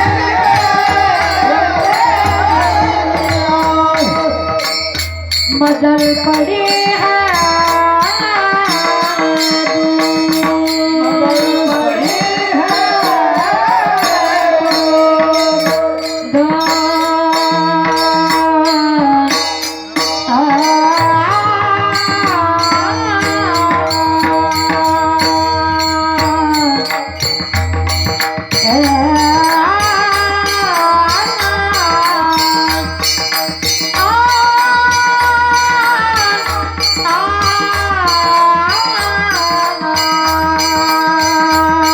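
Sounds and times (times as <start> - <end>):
hand drum rhythm: 0.0 - 41.9.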